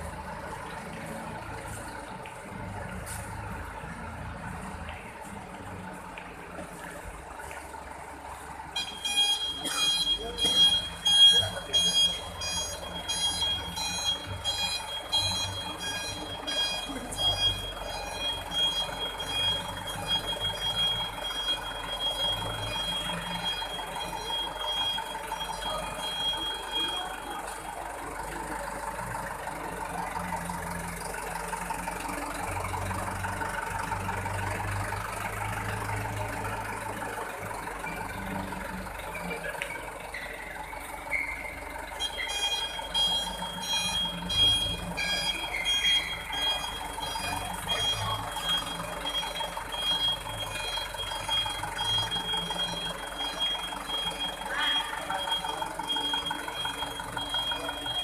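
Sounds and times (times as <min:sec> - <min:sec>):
low engine rumble: 0:00.0 - 0:58.0
truck reversing beeper: 0:06.7 - 0:58.0.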